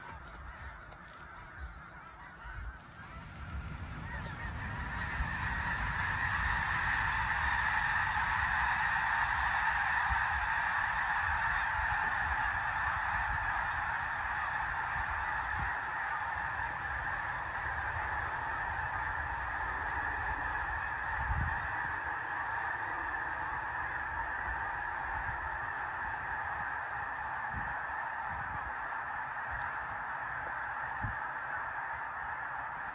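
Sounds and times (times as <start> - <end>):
flock of geese honking: 0.0 - 32.9.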